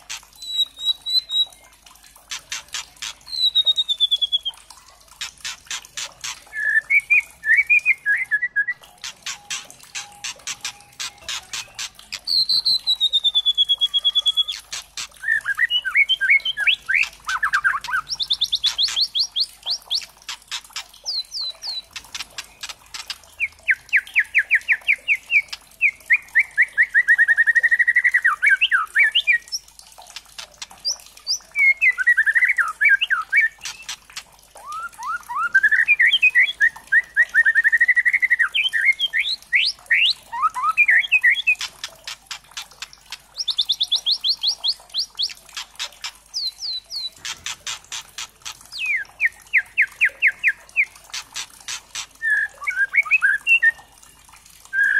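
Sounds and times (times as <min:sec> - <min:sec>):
bird singing clicks and whistles: 0:00.0 - 0:53.8.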